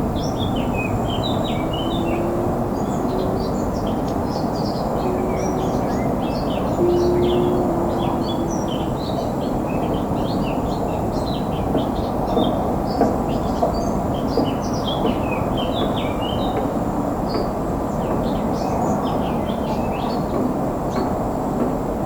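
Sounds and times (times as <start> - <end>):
small birds chirping and twittering: 0.1 - 21.2.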